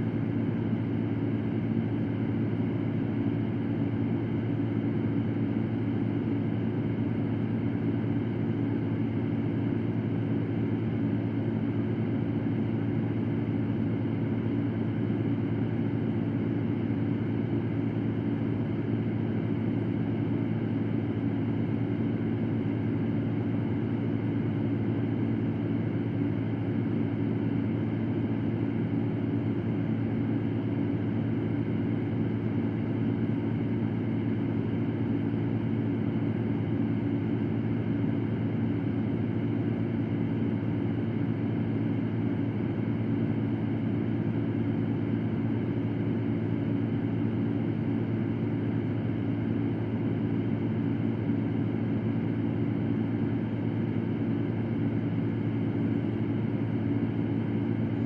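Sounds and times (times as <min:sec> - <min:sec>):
electric fan running: 0:00.0 - 0:58.0.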